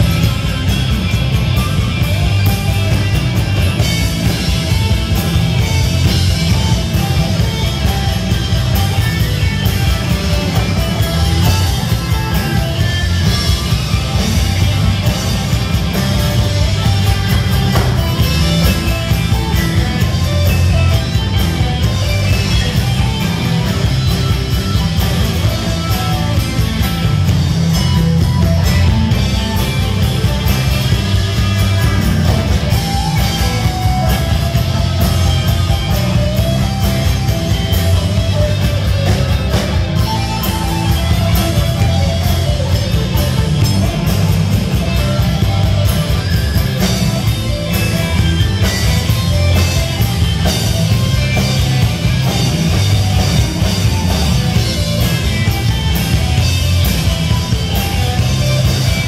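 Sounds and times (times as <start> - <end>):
drum kit: 0.0 - 59.0.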